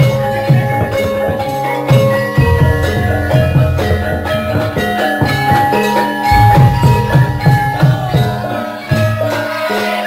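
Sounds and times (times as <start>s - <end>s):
hand drum strokes: 0.0s - 9.0s
ringing metallophone tones: 0.3s - 8.9s.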